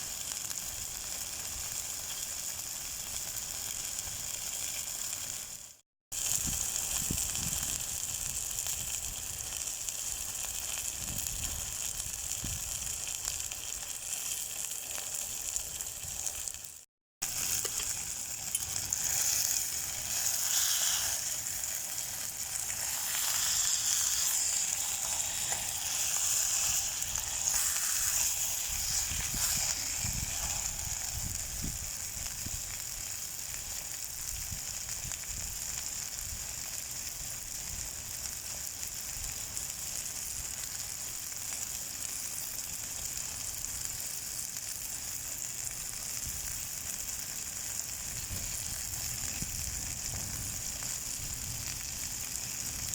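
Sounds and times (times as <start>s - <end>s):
chicken sizzling in a frying pan: 0.0s - 52.9s.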